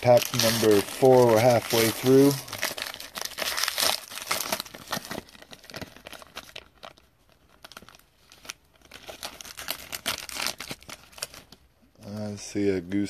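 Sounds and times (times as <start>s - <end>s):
wrapper crinkling and tearing: 0.0s - 11.7s.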